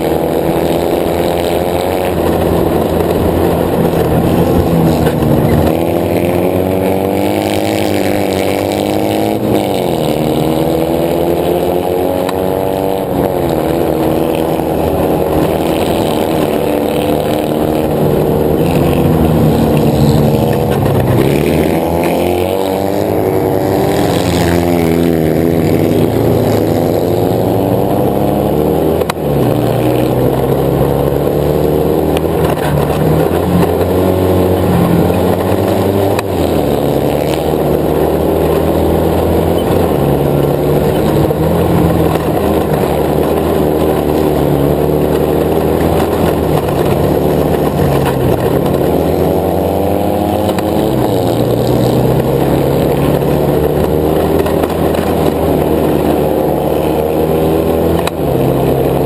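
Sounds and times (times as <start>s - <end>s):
buggy engine revving: 0.0s - 59.0s.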